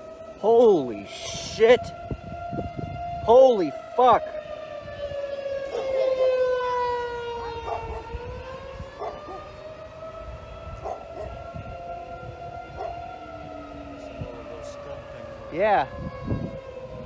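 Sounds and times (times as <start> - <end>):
civil defense sirens wailing: 0.0 - 17.0.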